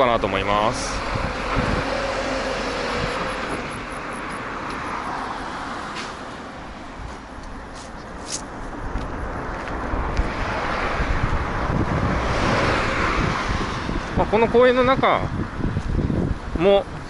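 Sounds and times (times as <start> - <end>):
car passing: 0.0 - 15.7
steady outdoor noise: 0.0 - 17.0.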